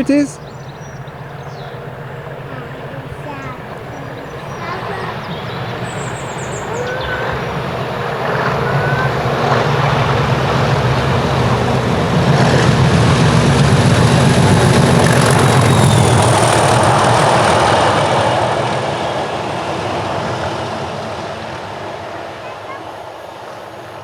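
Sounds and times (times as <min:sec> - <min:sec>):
diesel locomotive passing: 0:00.0 - 0:24.0.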